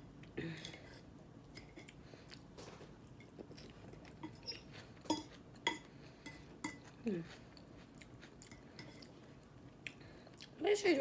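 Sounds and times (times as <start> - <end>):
chewing salad: 0.1 - 10.7.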